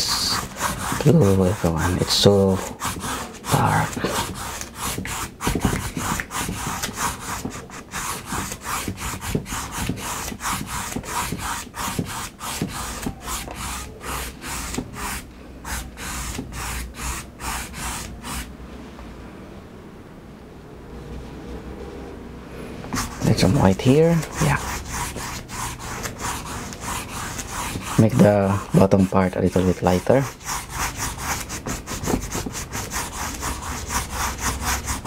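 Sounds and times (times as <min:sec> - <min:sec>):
paintbrush scrubbing on canvas: 0:00.0 - 0:18.5, 0:22.8 - 0:35.0.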